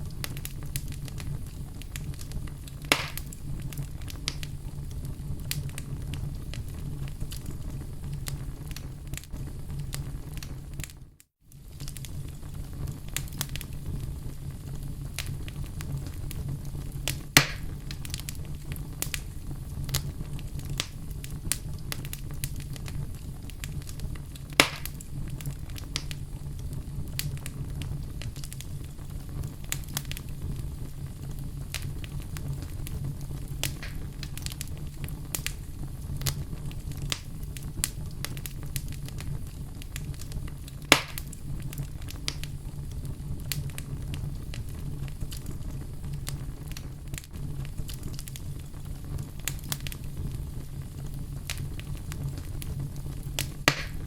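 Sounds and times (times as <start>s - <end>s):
loud fire pops: 0.0s - 54.0s
wood fire crackling: 0.0s - 54.0s.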